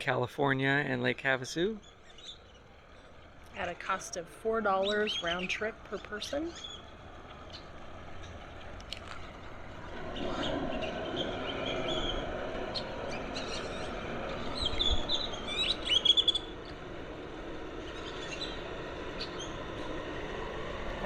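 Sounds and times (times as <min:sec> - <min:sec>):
birds chirping: 0:00.0 - 0:09.3, 0:10.0 - 0:16.8, 0:17.7 - 0:20.0
steady background hum: 0:00.0 - 0:21.0.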